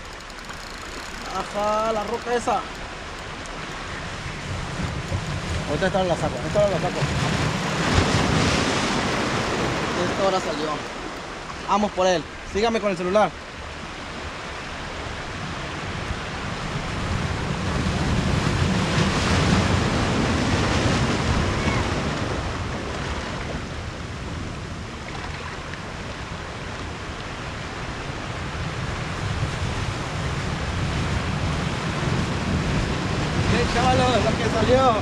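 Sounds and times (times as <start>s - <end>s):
ocean surf washing over rocks: 0.0s - 35.0s.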